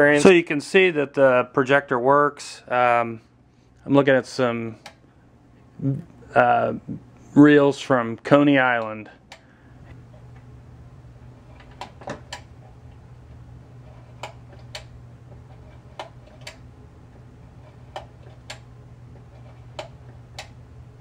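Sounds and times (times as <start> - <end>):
projector fan hum: 0.0 - 21.0.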